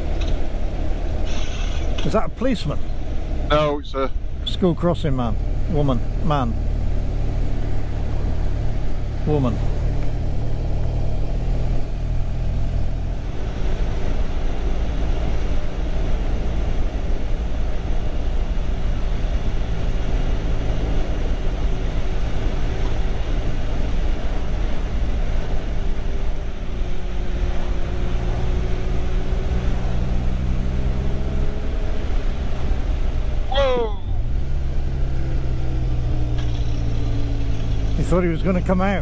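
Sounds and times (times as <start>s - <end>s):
wind and road noise: 0.0s - 39.0s.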